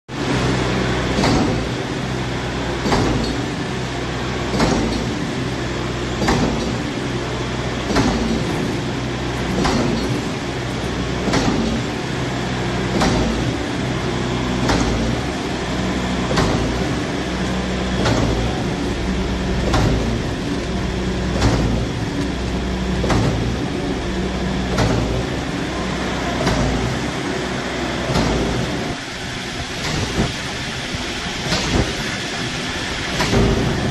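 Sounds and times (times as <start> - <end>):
pump engine drone: 0.1 - 33.9.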